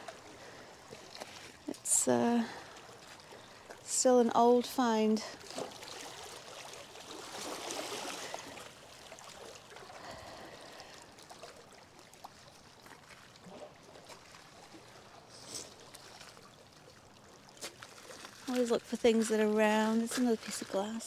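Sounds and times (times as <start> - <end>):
water lapping against rocks: 0.0 - 4.4, 5.0 - 21.0.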